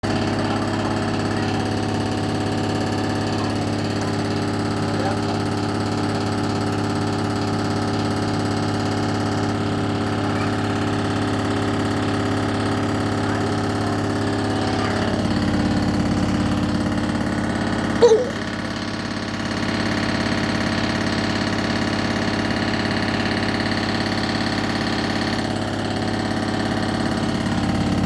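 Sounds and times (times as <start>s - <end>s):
washing machine spinning: 0.0s - 28.0s.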